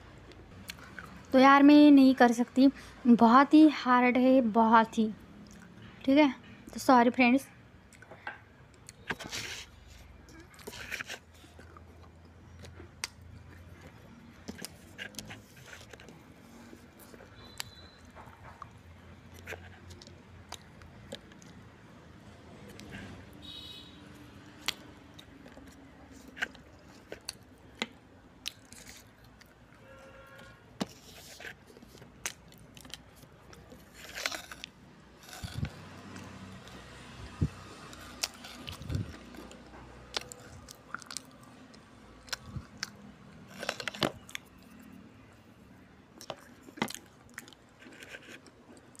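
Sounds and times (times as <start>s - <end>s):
chewing and crunching clay: 0.2s - 1.4s, 7.8s - 45.3s, 46.1s - 49.0s.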